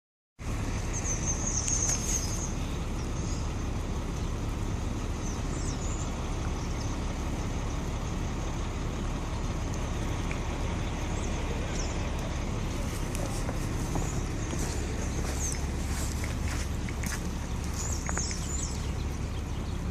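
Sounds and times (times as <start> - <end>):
city street traffic rumble: 0.4 - 19.9.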